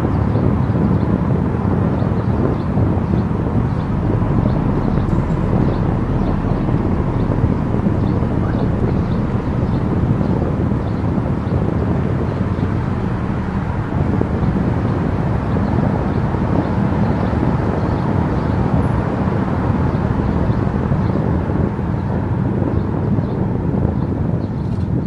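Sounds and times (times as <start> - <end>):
car tyre and wind noise: 0.0 - 25.0.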